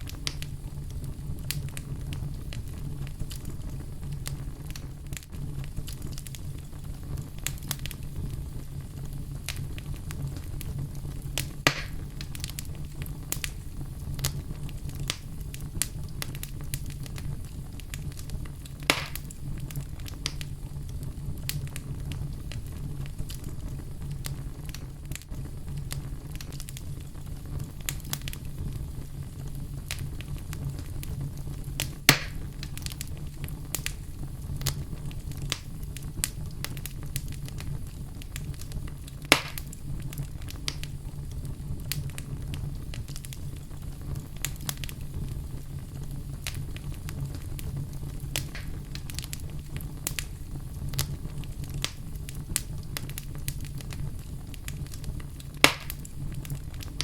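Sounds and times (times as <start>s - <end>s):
fire burning: 0.0s - 57.0s
fire crackling: 0.0s - 57.0s
loud fire pops: 0.0s - 57.0s.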